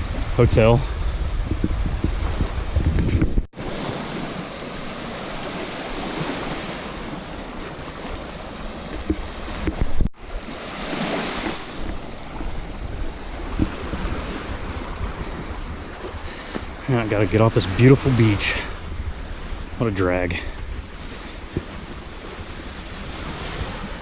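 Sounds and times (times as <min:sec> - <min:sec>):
wind buffeting microphone: 0:00.0 - 0:04.8, 0:05.4 - 0:24.0
waves washing onto sandy shore: 0:03.6 - 0:24.0.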